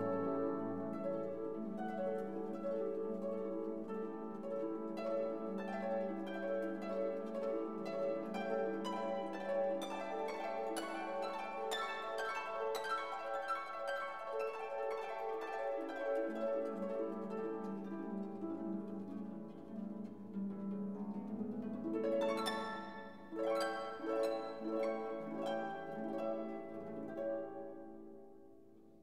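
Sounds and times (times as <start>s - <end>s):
plucked harp-like music: 0.0s - 28.9s.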